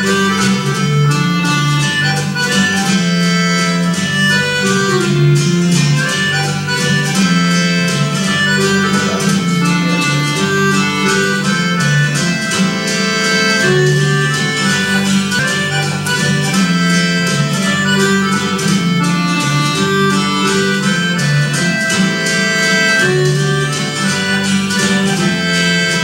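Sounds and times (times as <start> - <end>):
instrumental music: 0.0 - 26.0.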